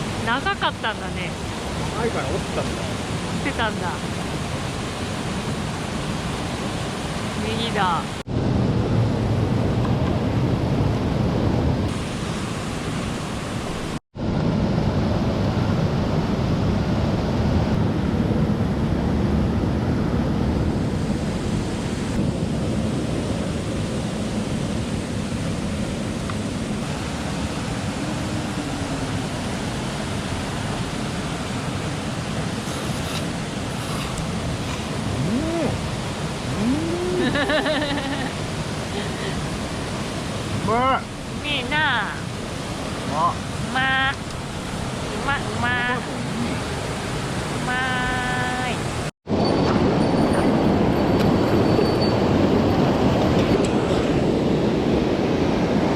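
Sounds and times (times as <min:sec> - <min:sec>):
stream water rushing: 0:00.0 - 0:18.0, 0:20.7 - 0:49.4.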